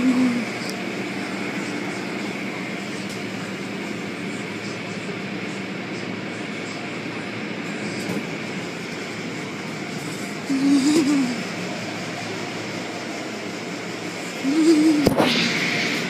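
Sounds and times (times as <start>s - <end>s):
car wash machinery rushing: 0.0s - 16.0s.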